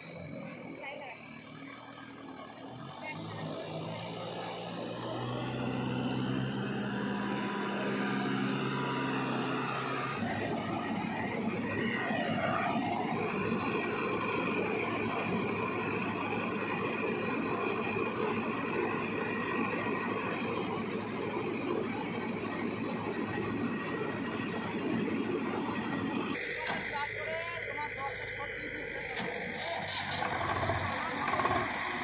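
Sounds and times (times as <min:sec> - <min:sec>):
combine harvester engine humming: 0:00.0 - 0:32.0
high machine whine: 0:00.0 - 0:32.0.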